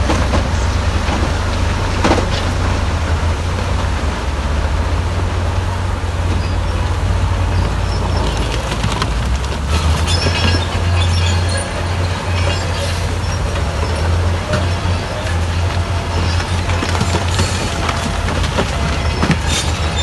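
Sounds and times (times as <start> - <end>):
diesel machinery engine rumble: 0.0 - 20.0.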